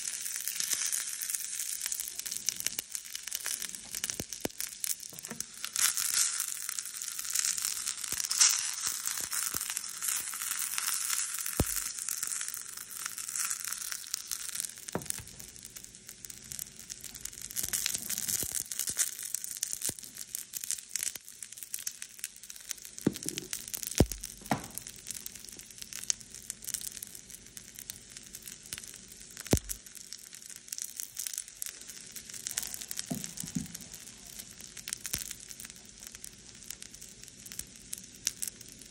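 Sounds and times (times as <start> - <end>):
spices crackling in hot oil: 0.0 - 38.9.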